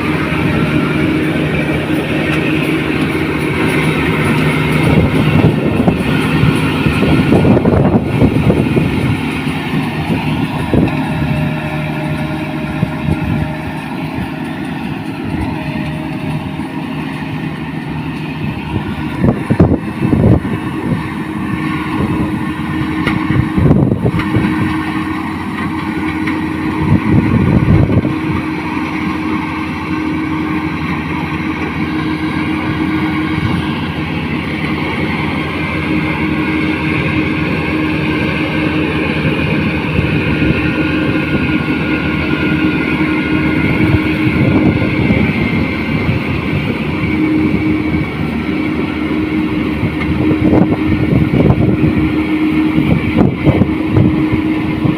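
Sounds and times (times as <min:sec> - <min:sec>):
combine harvester engine drone: 0:00.0 - 0:54.9.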